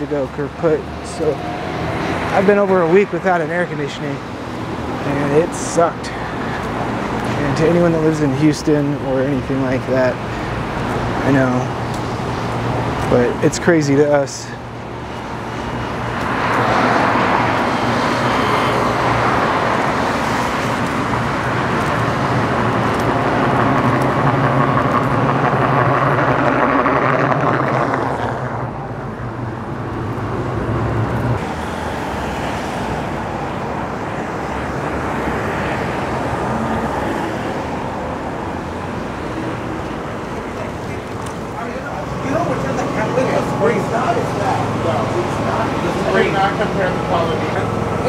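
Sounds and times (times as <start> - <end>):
cars passing on wet road: 0.0 - 48.0.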